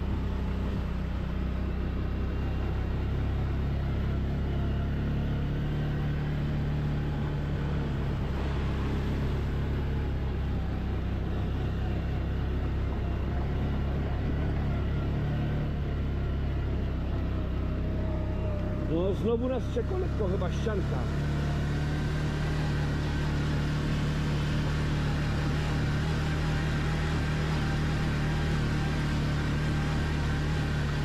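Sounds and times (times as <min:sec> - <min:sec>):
quad bike engine running: 0:00.0 - 0:31.0.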